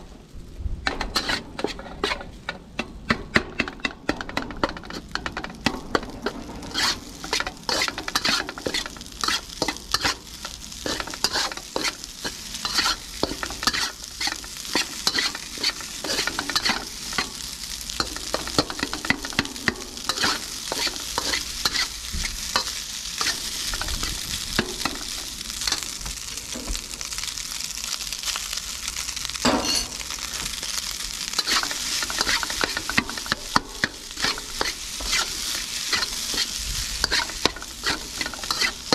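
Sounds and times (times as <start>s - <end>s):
rice sizzling in a wok: 0.0s - 38.9s
utensil scraping a wok: 0.9s - 28.4s, 29.4s - 38.9s.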